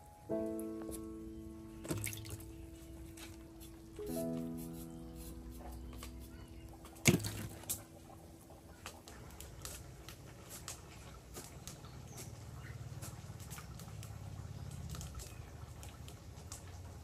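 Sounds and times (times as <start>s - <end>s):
wood fire crackling: 2.7s - 17.0s.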